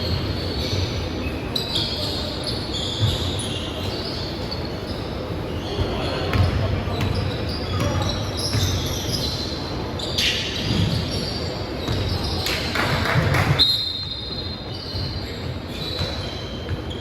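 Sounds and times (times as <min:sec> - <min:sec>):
sneaker squeaks: 0:00.0 - 0:17.0.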